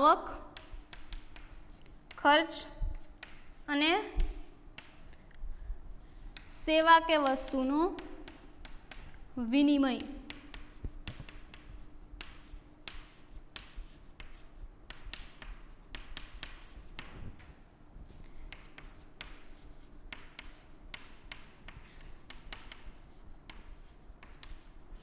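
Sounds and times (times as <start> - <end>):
chalk scratching on chalkboard: 0.0 - 9.2, 9.8 - 17.2, 18.2 - 25.0.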